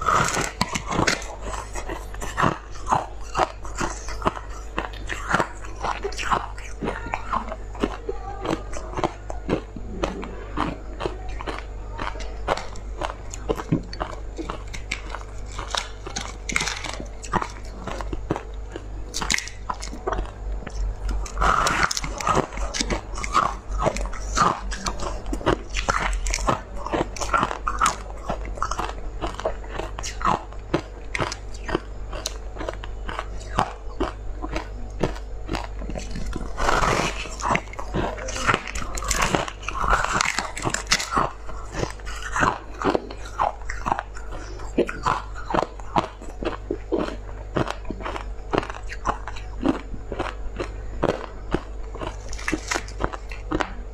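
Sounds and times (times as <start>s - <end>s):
crunchy ice chewing: 0.0s - 53.9s
steady low hum: 0.0s - 53.9s.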